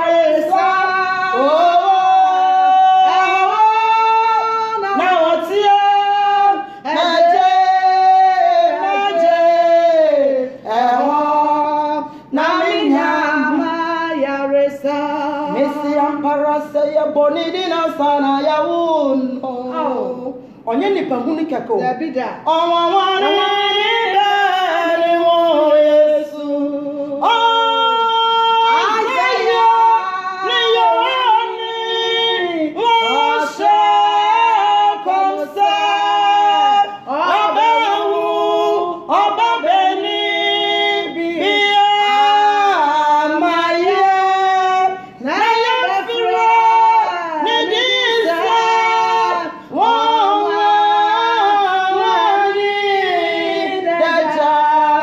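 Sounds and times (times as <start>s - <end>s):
women singing: 0.0s - 55.0s.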